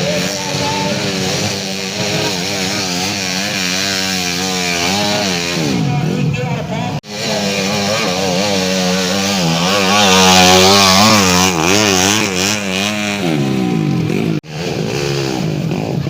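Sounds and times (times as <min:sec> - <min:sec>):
motorcycle engine revving hard: 0:00.0 - 0:16.0.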